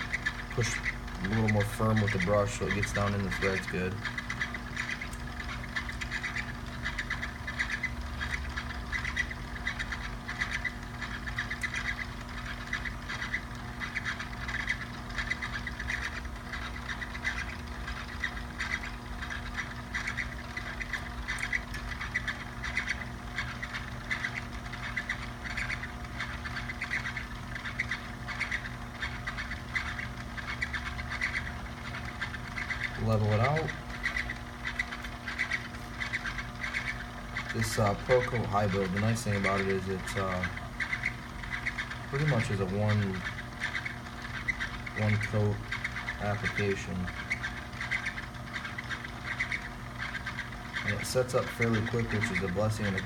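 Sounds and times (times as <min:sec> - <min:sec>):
high squeak: 0:00.0 - 0:53.0
small electric motor humming: 0:00.0 - 0:53.0.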